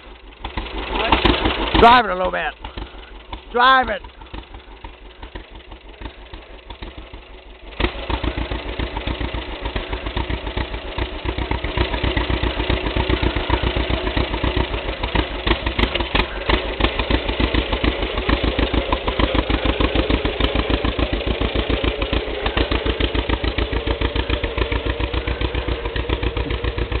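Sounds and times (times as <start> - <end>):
tractor engine chugging: 0.0 - 27.0.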